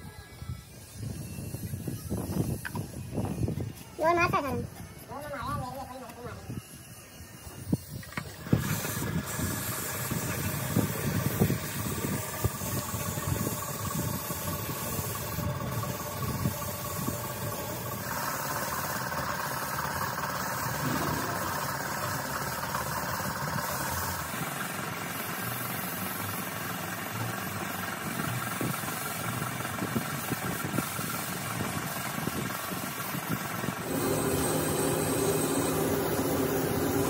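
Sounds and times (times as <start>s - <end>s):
spray gun hissing: 6.6s - 37.0s.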